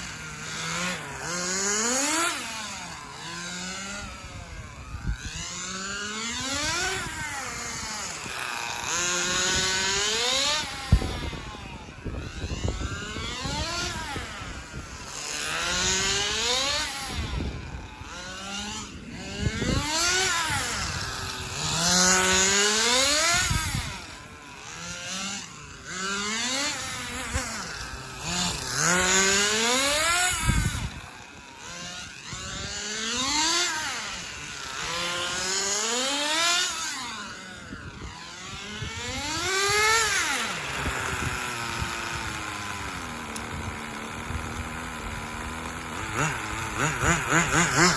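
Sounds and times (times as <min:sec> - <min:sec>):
nitro rc car engine whine: 0:00.0 - 0:47.9.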